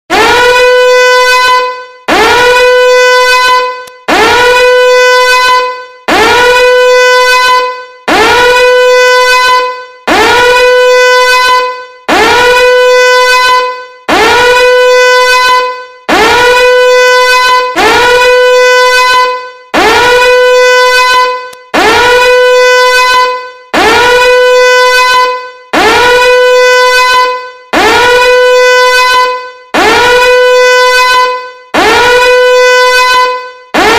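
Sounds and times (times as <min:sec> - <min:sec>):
horn-like alarm tone: 0:00.1 - 0:33.9.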